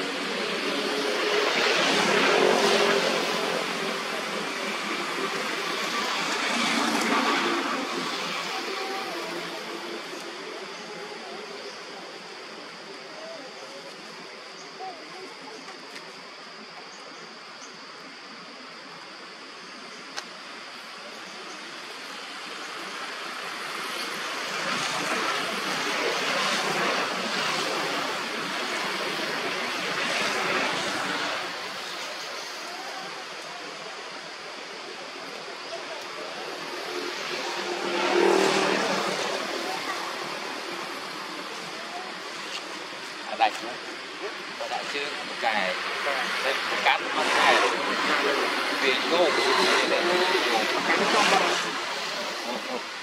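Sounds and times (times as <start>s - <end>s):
steady rushing noise: 0.0s - 14.8s, 15.8s - 53.0s.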